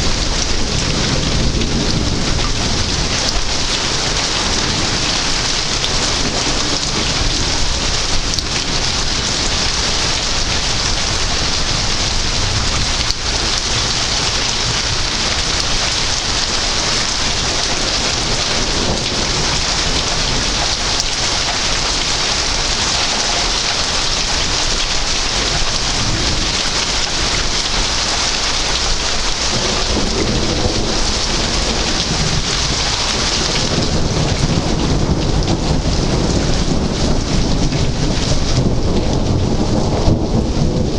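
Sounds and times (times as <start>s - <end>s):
heavy rain falling: 0.0s - 40.9s
low thunder rumbling: 0.0s - 40.9s.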